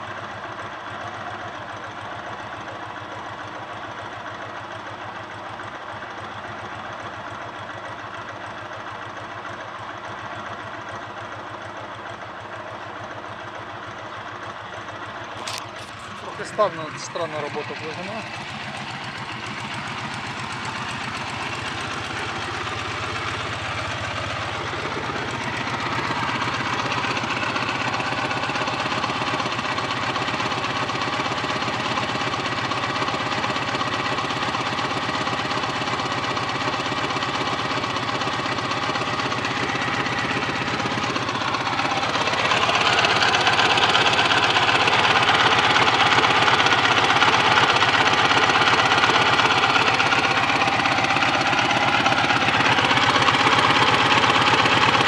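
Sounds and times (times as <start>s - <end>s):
motorcycle engine knocking: 0.0s - 55.0s.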